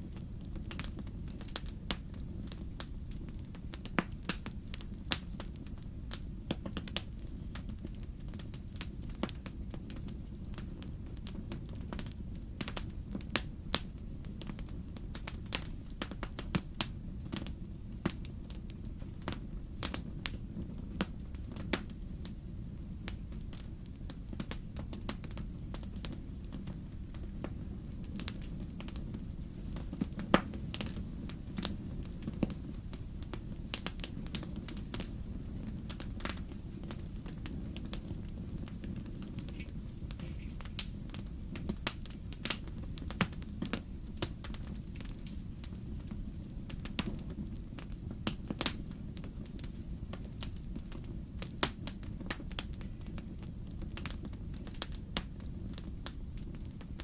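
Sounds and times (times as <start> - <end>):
low rumble of flames: 0.0 - 57.0
wood fire crackling: 0.0 - 57.0
sharp pops of fire: 0.1 - 57.0.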